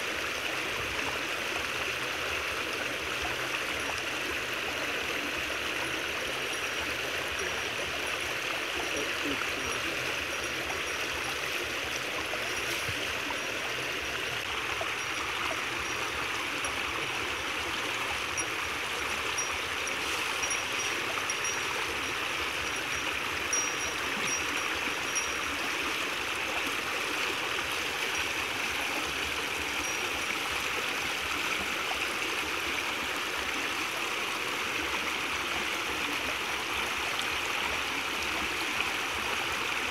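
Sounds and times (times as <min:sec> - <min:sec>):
creek water rushing and splashing: 0:00.0 - 0:39.9.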